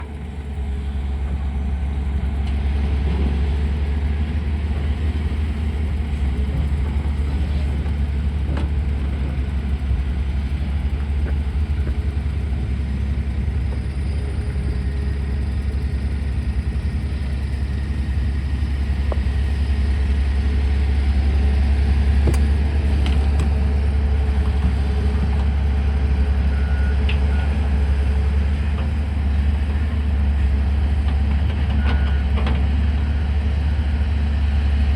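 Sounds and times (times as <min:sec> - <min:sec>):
excavator diesel engine droning: 0:00.0 - 0:34.9.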